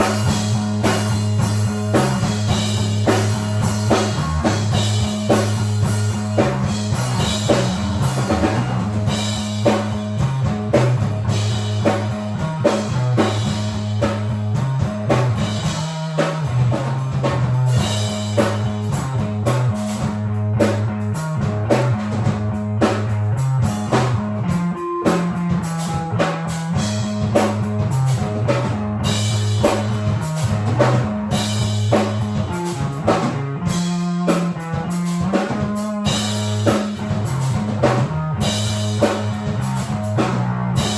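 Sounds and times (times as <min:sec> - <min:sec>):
bass line: 0:00.0 - 0:40.9
drum kit beat: 0:00.0 - 0:40.9
guitar: 0:00.0 - 0:40.9.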